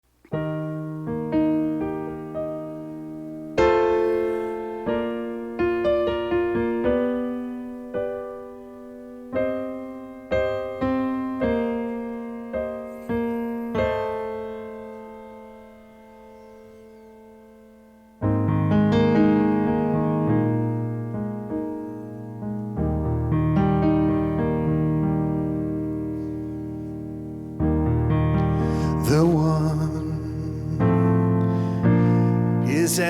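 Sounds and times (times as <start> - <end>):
slow keyboard chords: 0.1 - 33.0.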